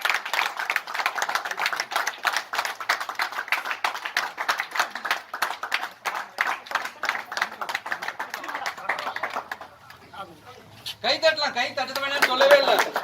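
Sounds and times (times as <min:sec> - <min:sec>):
people clapping: 0:00.0 - 0:10.3, 0:11.3 - 0:13.0.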